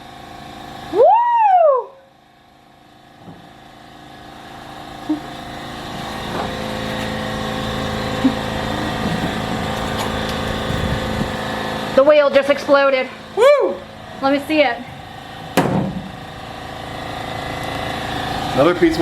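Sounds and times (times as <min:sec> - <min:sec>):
engine-like hum with held tones: 0:00.0 - 0:19.0.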